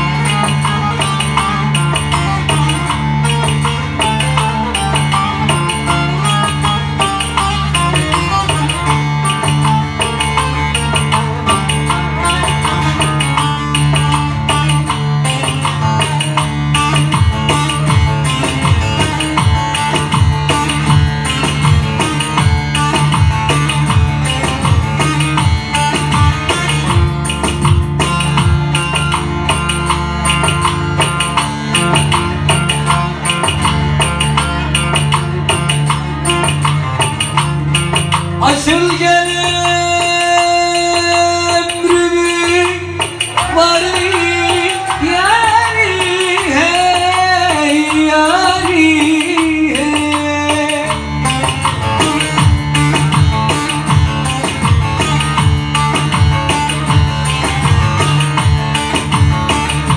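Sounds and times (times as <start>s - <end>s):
deep drum beat: 0.0s - 59.9s
long-necked lute folk tune: 0.0s - 59.9s.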